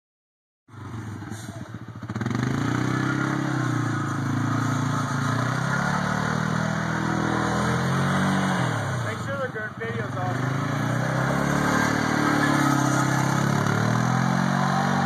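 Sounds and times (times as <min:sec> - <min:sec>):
quad engine revving: 0:00.8 - 0:15.0.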